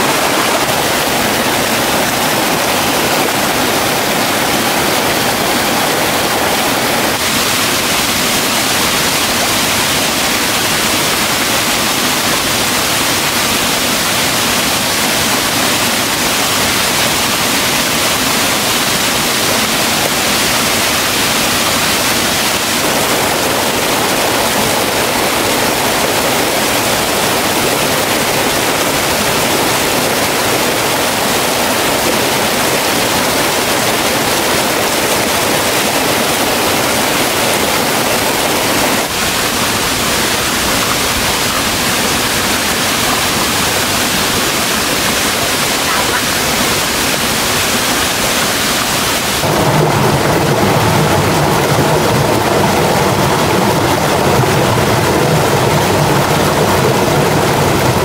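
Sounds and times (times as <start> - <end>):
waterfall pouring over rocks: 0.0 - 58.0.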